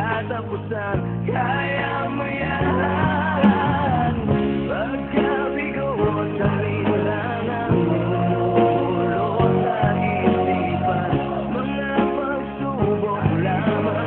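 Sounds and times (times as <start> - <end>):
song with person singing: 0.0 - 14.0.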